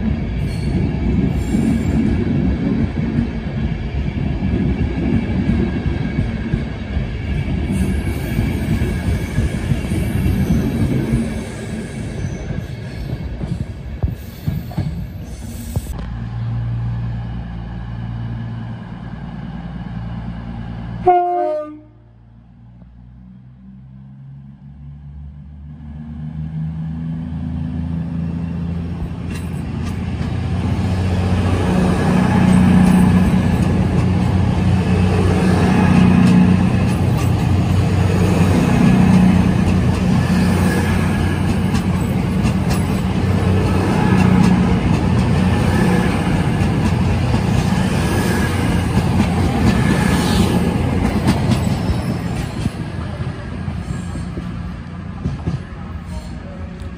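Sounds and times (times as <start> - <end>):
diesel train engines droning: 0.0 - 56.9
rail noise: 0.0 - 56.9.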